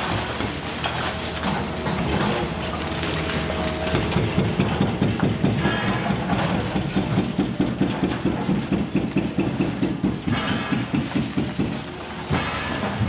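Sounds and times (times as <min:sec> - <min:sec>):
excavator diesel engine under load: 0:00.0 - 0:10.7.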